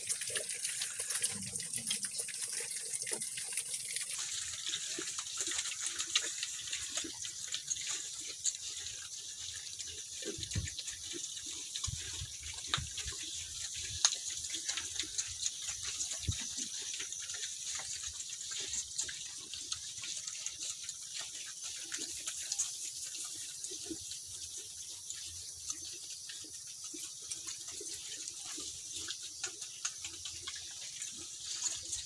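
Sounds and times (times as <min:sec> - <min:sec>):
piglets smacking and chomping: 0:00.0 - 0:32.0.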